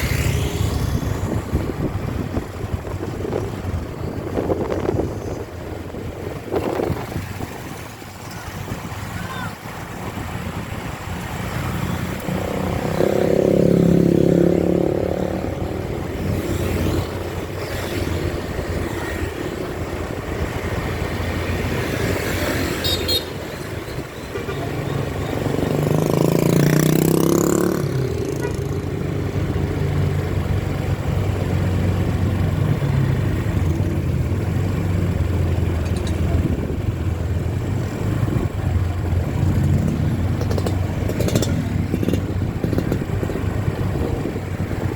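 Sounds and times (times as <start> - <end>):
bus engines passing: 0.0 - 44.9.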